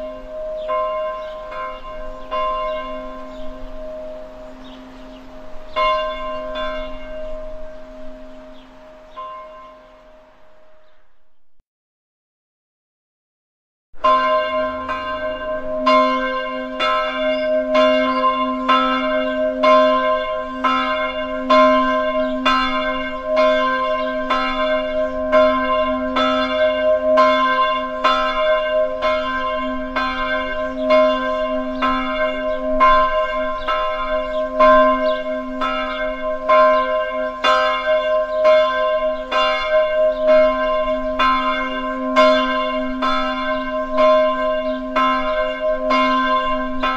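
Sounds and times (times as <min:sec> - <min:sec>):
large bell tolling: 0:00.0 - 0:10.9, 0:14.0 - 0:46.9.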